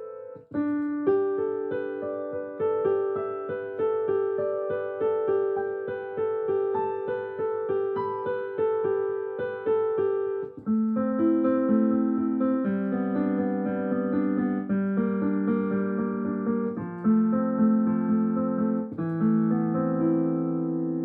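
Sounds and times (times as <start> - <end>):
piano chords and notes: 0.0 - 21.0.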